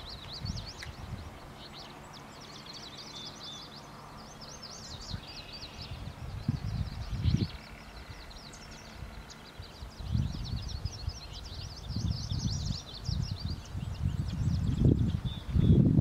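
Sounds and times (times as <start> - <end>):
low rumbling gusts: 0.0 - 16.0
songbirds chirping: 0.0 - 16.0.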